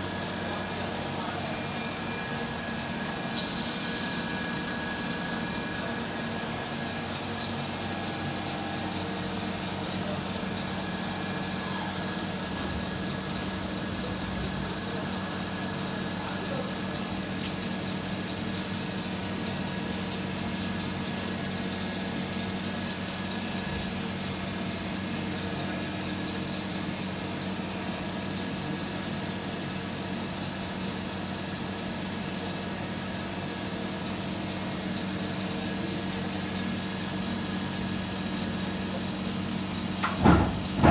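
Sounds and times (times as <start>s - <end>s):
lathe machine drone: 0.0s - 40.9s.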